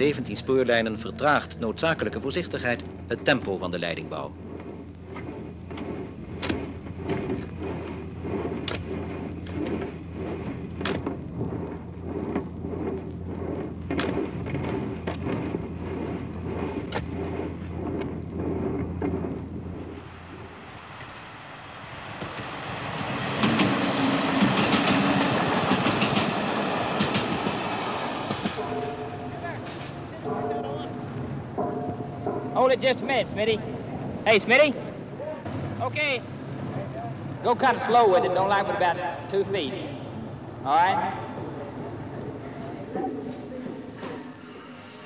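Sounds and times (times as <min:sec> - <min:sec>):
broad rushing rattle: 0:00.0 - 0:40.6.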